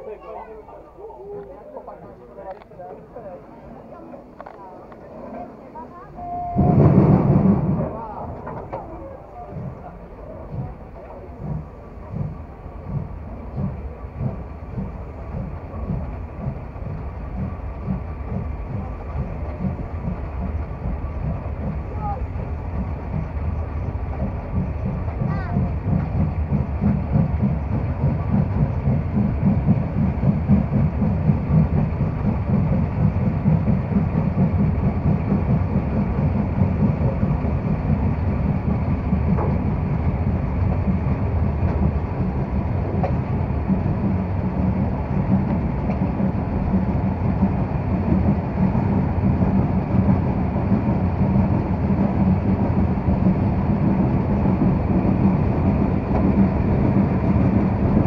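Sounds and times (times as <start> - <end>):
wheel and rail noise: 0.0 - 58.0
steam locomotive exhaust beats: 1.2 - 58.0.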